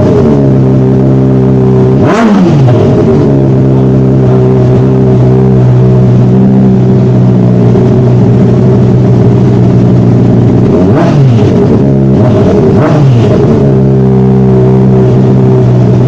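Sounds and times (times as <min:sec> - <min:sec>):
motorcycle engine running loud: 0:00.0 - 0:16.0.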